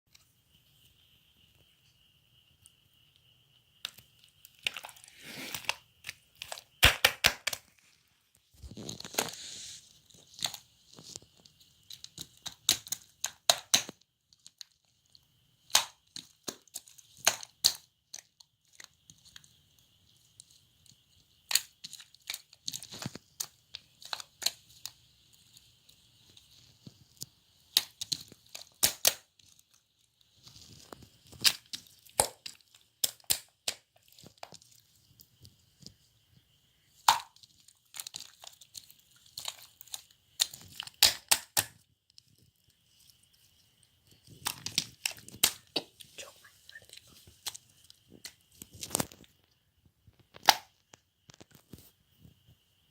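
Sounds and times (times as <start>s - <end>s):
crinkling: 0.1s - 52.9s
sharp cracks and snaps: 2.6s - 52.5s.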